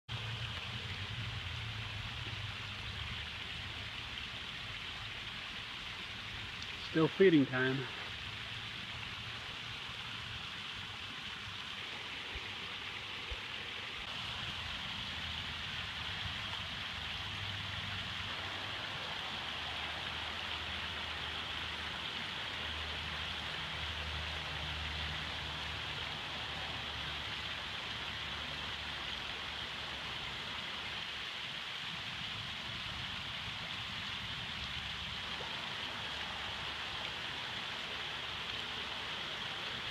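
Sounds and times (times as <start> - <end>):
small waterfall splashing into pond: 0.1 - 39.9.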